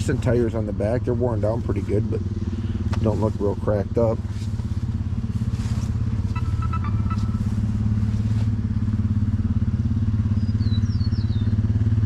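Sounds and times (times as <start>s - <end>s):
engine running with pulsing beat: 0.0s - 12.0s.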